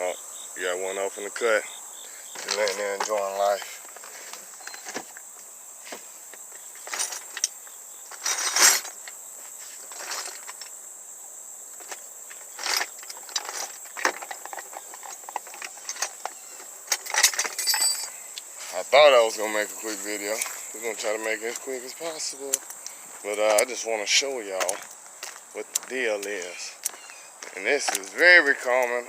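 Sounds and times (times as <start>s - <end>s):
insects trilling: 0.0s - 29.0s
handling clicks and rustles: 2.3s - 10.8s, 11.8s - 29.0s.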